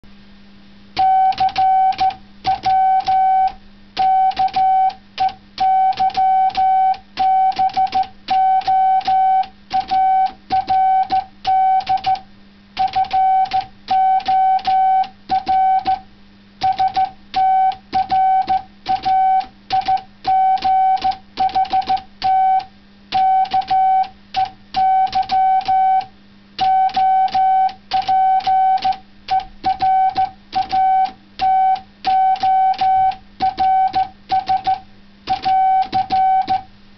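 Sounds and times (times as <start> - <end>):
morse code beeping: 1.0 - 12.2, 12.8 - 36.7.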